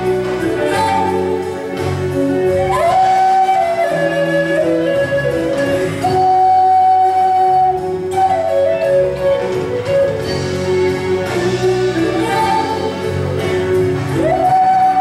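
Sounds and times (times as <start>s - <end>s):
wooden flute melody: 0.0s - 15.0s.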